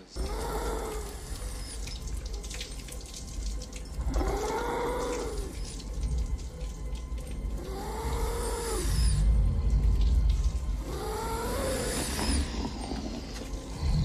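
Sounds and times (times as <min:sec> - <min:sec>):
deep rumble: 0:00.1 - 0:14.0.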